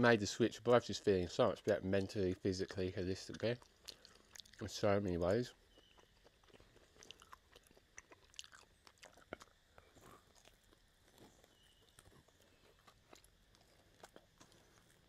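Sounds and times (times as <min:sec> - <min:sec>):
person chewing meat off bone: 0:02.4 - 0:15.0
mouth clicks: 0:02.6 - 0:15.0.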